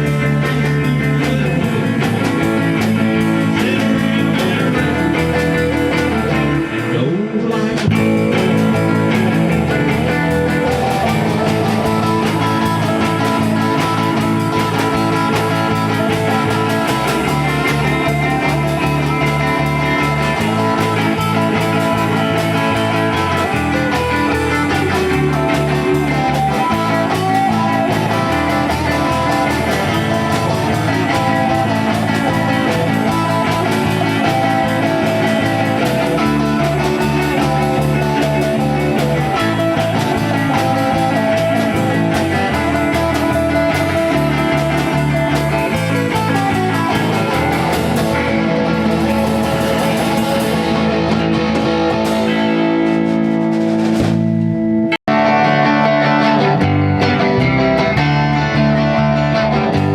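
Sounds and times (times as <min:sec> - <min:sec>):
bass guitar notes: 0:00.0 - 0:59.9
rock band playing instrumental: 0:00.0 - 0:59.9.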